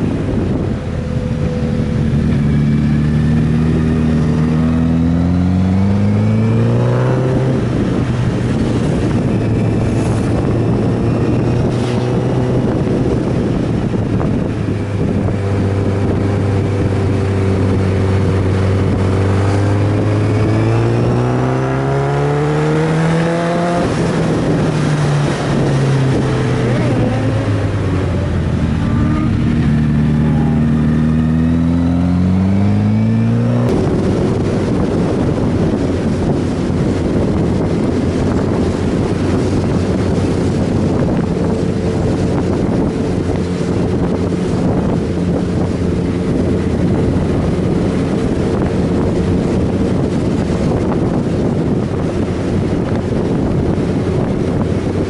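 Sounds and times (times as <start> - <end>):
motorcycle engine revving: 0.0 - 55.0
wind noise hissing: 6.6 - 30.0, 33.3 - 55.0.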